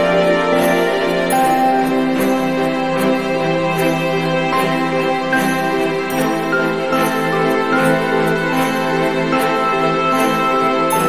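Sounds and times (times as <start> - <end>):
slow melodic background music: 0.0 - 11.0.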